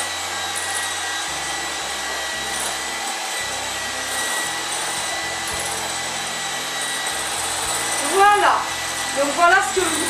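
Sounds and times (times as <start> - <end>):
electric hand mixer whisking: 0.0 - 10.0.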